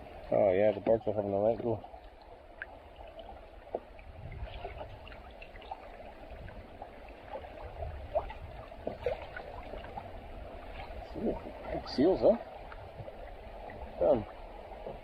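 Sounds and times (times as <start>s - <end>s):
water lapping against kayak hulls: 0.0s - 15.0s
small splashes and drips: 0.8s - 15.0s.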